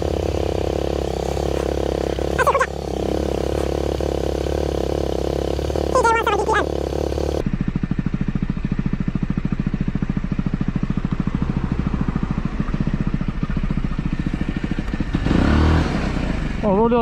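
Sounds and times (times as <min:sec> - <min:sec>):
motorcycle engine idling: 0:00.0 - 0:15.4, 0:16.3 - 0:17.0.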